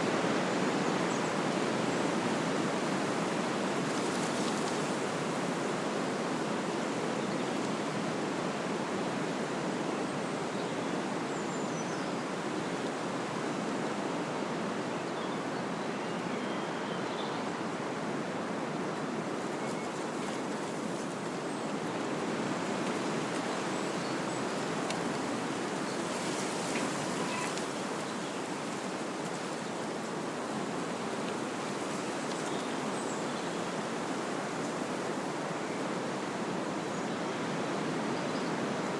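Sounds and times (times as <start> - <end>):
wind rushing through trees: 0.0 - 38.9.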